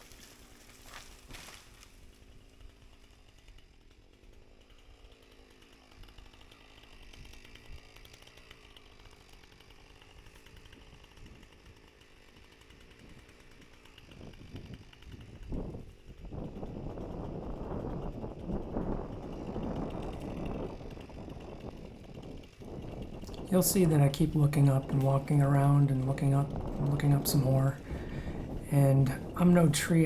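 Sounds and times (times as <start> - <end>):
faint chainsaw running: 0.0 - 30.0.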